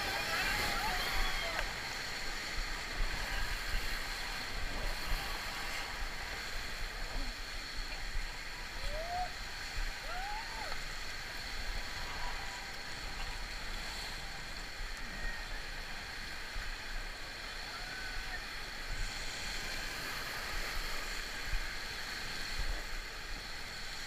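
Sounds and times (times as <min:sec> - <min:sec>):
whitewater rapids rushing: 0:00.0 - 0:24.0.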